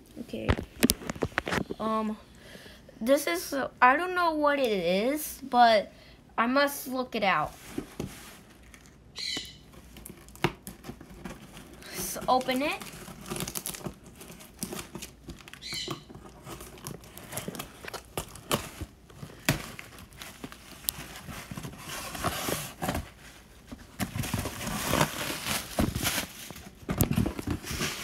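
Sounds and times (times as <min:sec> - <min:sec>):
cardboard and tape rustling: 0:00.2 - 0:02.1, 0:07.3 - 0:28.0.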